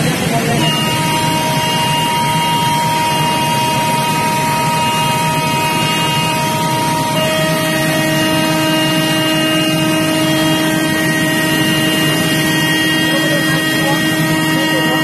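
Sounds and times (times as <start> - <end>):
high-pitched electric whine: 0.0 - 15.0.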